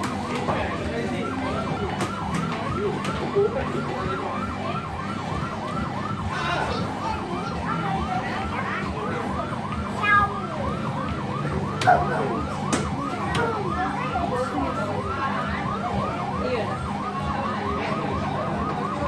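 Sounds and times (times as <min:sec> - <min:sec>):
electronic siren wailing: 0:00.0 - 0:19.0.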